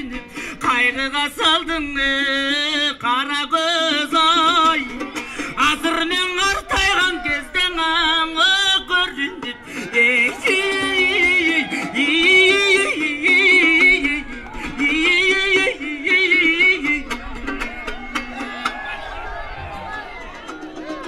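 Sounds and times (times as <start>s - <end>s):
person singing folk song: 0.0s - 19.5s
plucked lutes: 3.8s - 21.0s.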